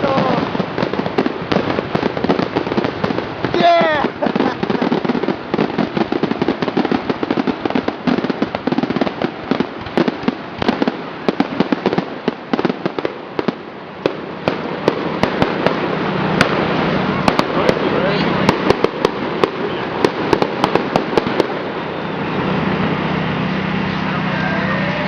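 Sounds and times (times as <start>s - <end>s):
fireworks crackling: 0.0s - 25.0s
fireworks sharp cracks: 0.0s - 25.0s
rushing noise: 0.0s - 25.0s.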